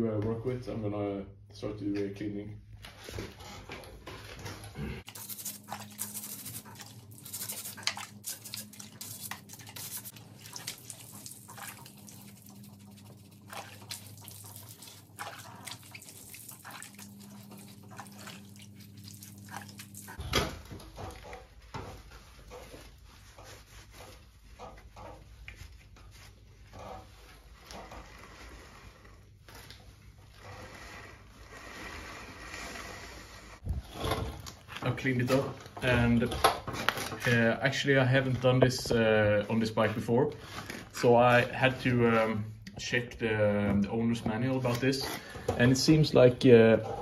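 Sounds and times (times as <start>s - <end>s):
plastic brush scrubbing: 2.9s - 42.2s, 43.9s - 47.0s.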